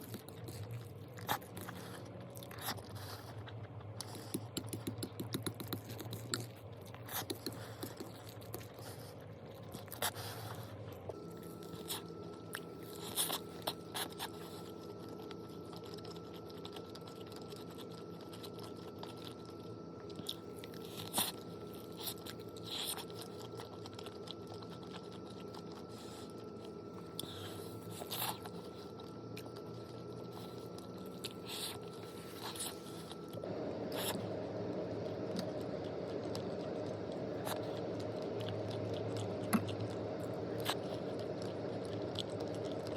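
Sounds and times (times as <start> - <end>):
person chewing crunchy food: 0.0 - 42.9
low hum: 5.2 - 42.9.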